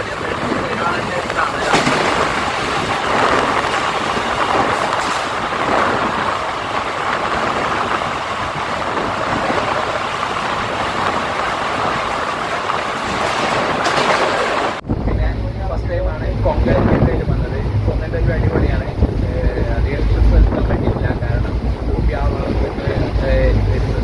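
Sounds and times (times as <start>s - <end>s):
train rumbling and rattling: 0.0s - 24.0s.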